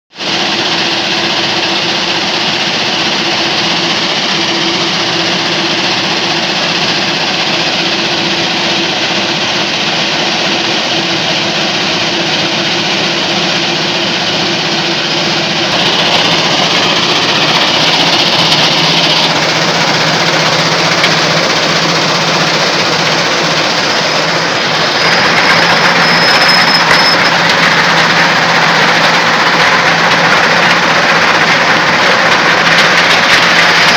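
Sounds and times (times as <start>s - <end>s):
engine hum: 0.2s - 33.9s
stone crusher machinery running: 0.2s - 33.9s.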